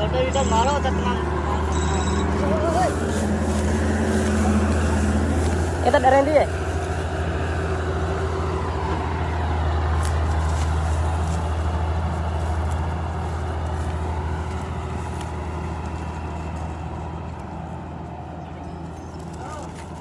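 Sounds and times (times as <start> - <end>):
large diesel engine droning: 0.0 - 20.0.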